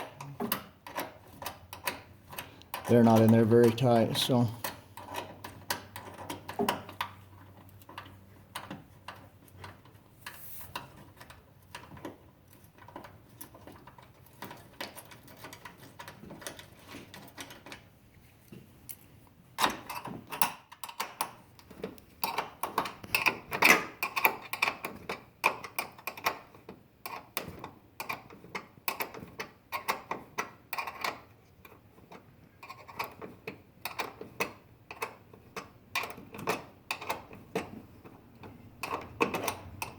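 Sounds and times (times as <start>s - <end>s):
wrench clicking and scraping on bolts: 0.0s - 17.9s, 18.9s - 39.9s.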